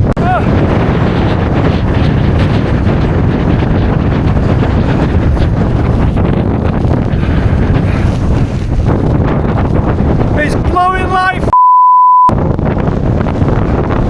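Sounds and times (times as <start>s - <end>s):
wind blowing across microphone: 0.0s - 11.6s, 12.3s - 14.0s.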